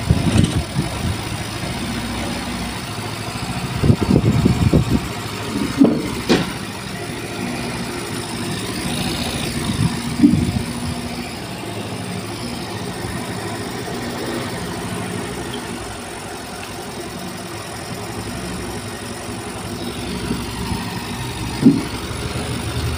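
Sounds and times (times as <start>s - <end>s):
scooter engine idling: 0.0s - 22.9s.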